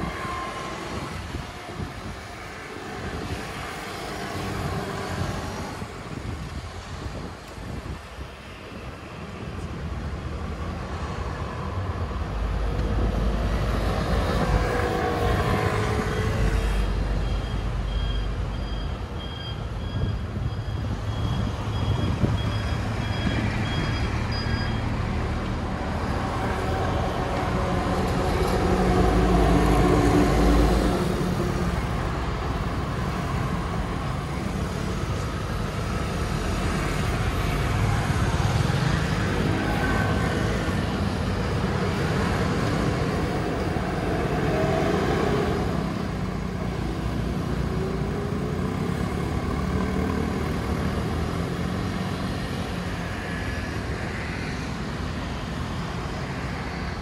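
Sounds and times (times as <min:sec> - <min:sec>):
scooter and car engines passing: 0:00.0 - 0:57.0.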